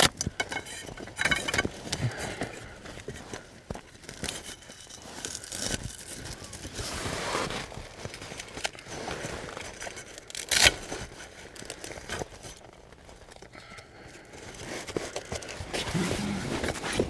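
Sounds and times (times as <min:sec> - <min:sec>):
canvas and bedding rustling: 0:00.8 - 0:13.4, 0:14.2 - 0:17.0.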